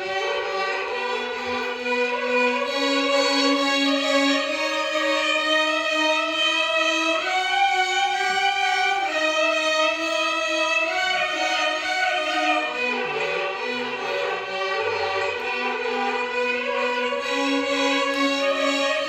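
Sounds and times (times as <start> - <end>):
violin orchestra playing in unison: 0.0 - 19.0.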